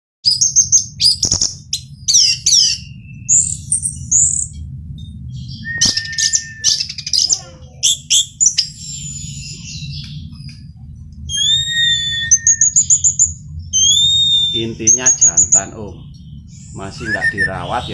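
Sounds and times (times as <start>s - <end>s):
thrush singing whistles and trills: 0.2s - 10.7s, 11.3s - 17.9s
low background rumble: 0.2s - 17.9s.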